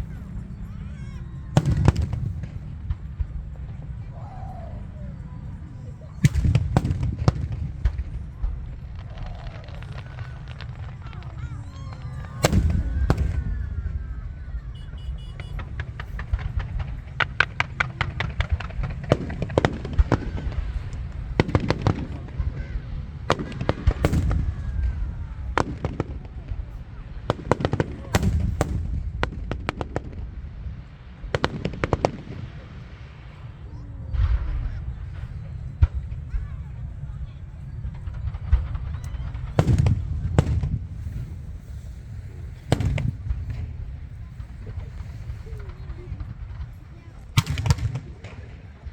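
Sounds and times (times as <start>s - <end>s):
fireworks bangs and pops: 0.0s - 48.9s
low background rumble: 0.0s - 48.9s.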